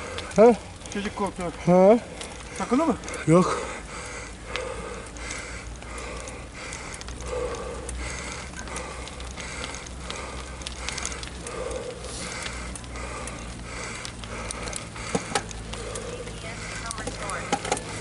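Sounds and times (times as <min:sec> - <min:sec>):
heavy rhythmic breathing: 0:00.0 - 0:18.0
low rumble of riding: 0:00.0 - 0:18.0
small ticks: 0:00.0 - 0:18.0.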